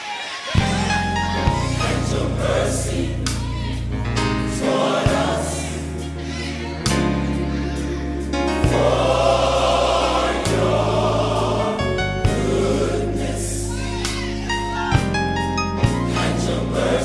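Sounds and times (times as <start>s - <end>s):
gospel choir singing: 0.0s - 17.0s
instrumental backing: 0.6s - 17.0s.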